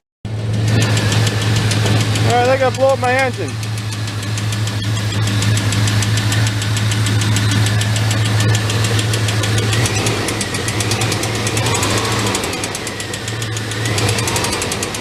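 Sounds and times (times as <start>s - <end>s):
pickup engine humming: 0.3s - 15.0s
rapid engine lifter ticking: 0.3s - 15.0s.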